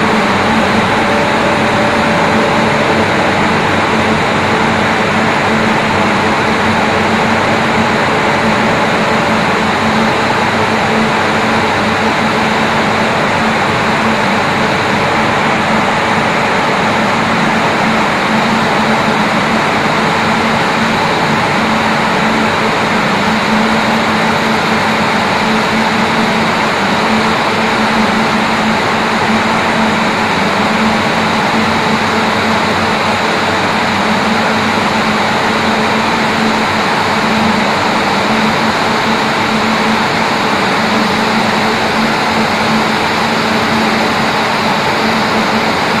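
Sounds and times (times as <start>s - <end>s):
spinning machines running: 0.0s - 46.0s.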